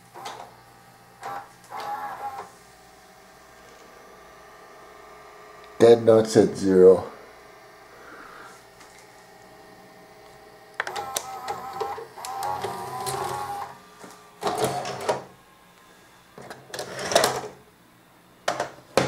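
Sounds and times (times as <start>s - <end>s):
video deck motor whirring: 0.0s - 15.6s.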